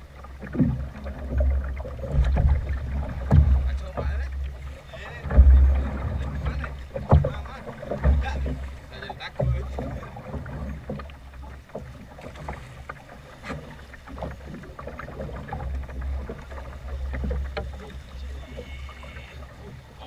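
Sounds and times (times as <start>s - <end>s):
waves slapping boat hull: 0.0s - 20.0s.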